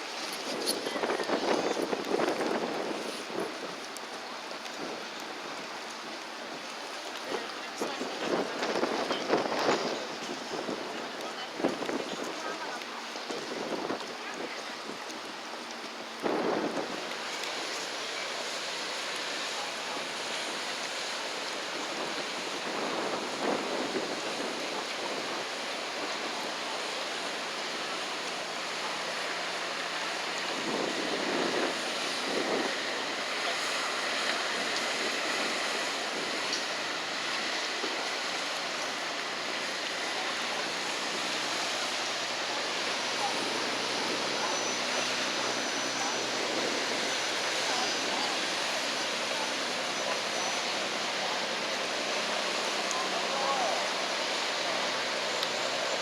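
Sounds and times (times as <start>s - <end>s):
wind on microphone: 0.0s - 5.8s, 7.2s - 15.3s, 16.0s - 18.5s, 19.3s - 56.0s
river water rushing: 0.0s - 56.0s.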